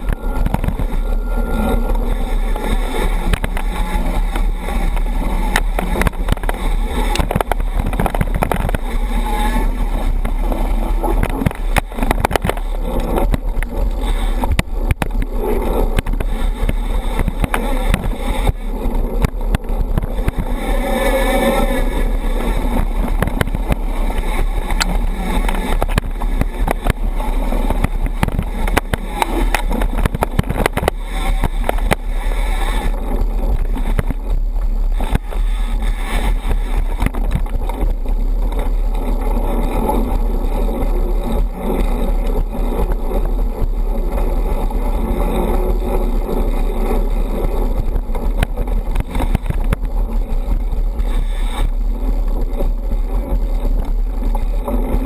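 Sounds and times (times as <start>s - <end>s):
bike rattling over bumps: 0.0s - 55.0s
bike tyre noise: 0.0s - 55.0s
wind rumble on microphone: 0.0s - 55.0s.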